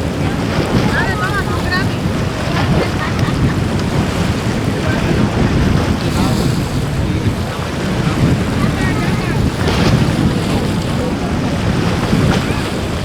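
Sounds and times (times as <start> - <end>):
faint distant voices: 0.0 - 13.0
surf washing: 0.0 - 13.0
wind buffeting microphone: 0.0 - 13.0.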